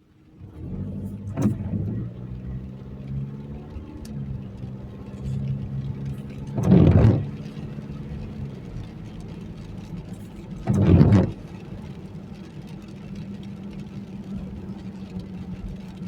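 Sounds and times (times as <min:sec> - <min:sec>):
car engine running: 0:00.2 - 0:16.0
windshield wipers sweeping: 0:00.4 - 0:16.0.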